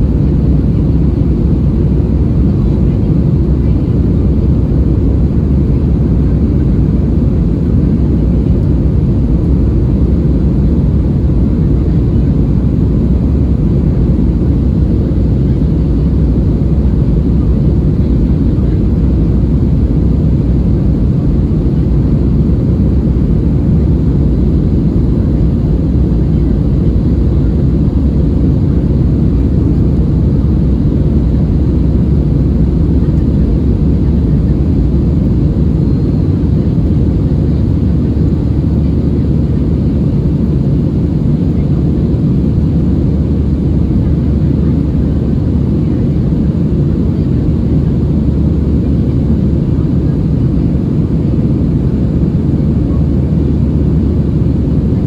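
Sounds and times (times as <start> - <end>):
jet engine cabin noise: 0.0 - 55.0.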